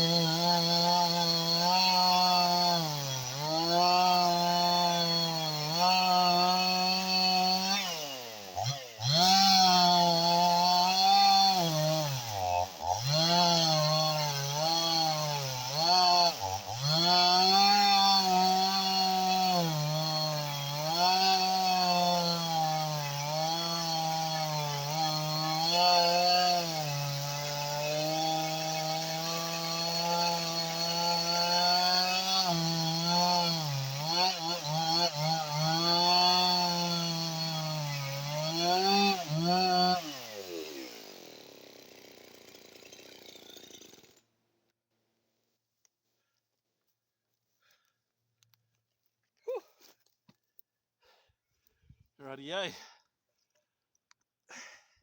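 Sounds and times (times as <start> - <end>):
chainsaw cutting wood: 0.0 - 44.4.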